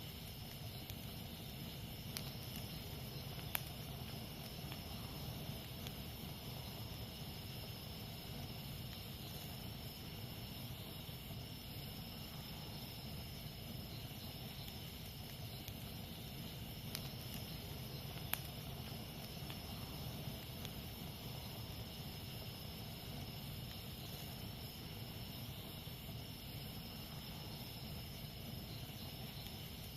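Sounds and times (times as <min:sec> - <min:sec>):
campfire burning: 0:00.0 - 0:29.9
fire popping: 0:00.0 - 0:29.9
jungle insects chirring: 0:00.0 - 0:29.9.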